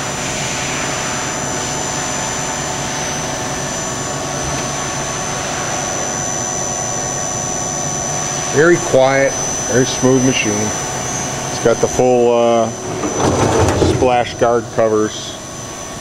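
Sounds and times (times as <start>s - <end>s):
high machine whine: 0.0s - 16.0s
machine hum: 2.8s - 16.0s.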